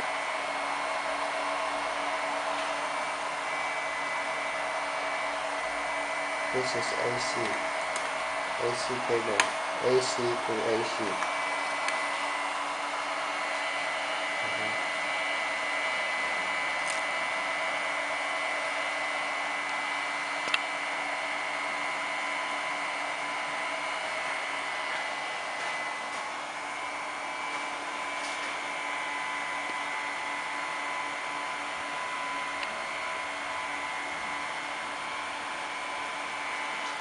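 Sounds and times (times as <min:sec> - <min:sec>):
cooling fans whirring: 0:00.0 - 0:37.0
faint steady whines: 0:00.0 - 0:37.0.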